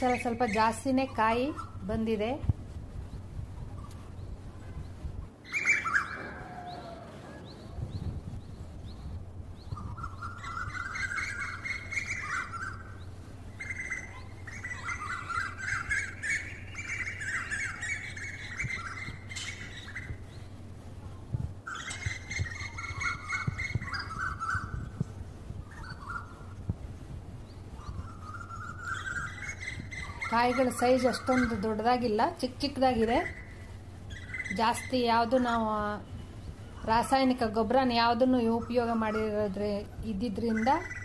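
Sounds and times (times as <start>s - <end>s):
birds chattering and squawking: 0.0s - 2.3s, 2.9s - 41.0s
low steady hum: 0.0s - 41.0s.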